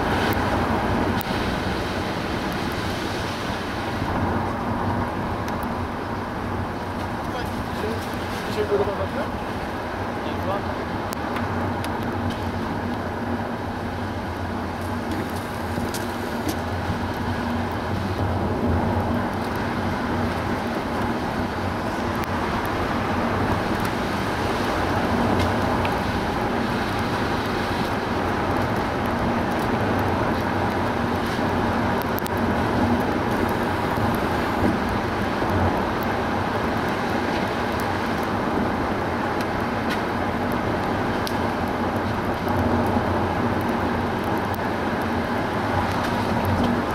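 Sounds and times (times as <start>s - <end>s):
low engine hum: 0.0s - 46.9s.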